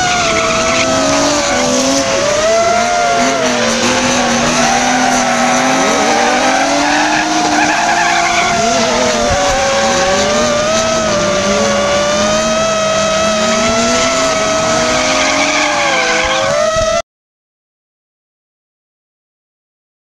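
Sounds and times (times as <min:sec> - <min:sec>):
tyres squealing: 0:00.0 - 0:12.0, 0:12.6 - 0:16.9
car engines revving: 0:00.0 - 0:17.0
drone propellers whining: 0:00.0 - 0:17.0.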